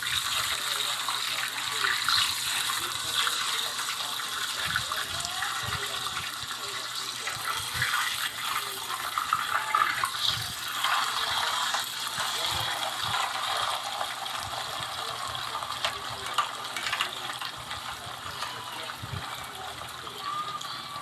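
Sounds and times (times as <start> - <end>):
potatoes clicking and scraping: 0.0 - 21.0
tap water running: 0.0 - 21.0.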